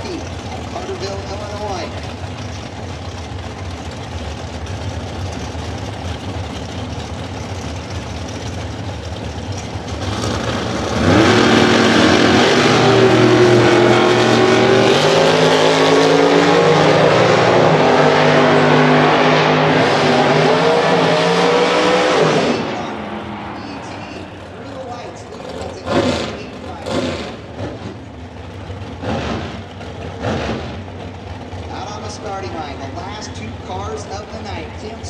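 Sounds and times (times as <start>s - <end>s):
drag racing engines roaring: 0.0s - 35.0s.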